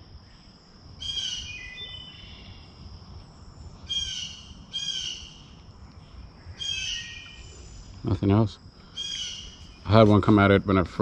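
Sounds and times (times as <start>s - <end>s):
songbird singing: 0.0s - 11.0s
steady high hum: 0.0s - 11.0s.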